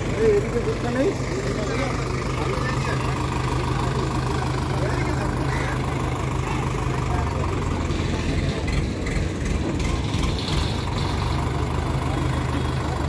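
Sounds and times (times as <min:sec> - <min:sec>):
faint voices: 0:00.0 - 0:13.0
heavy machine engine idling: 0:00.0 - 0:13.0.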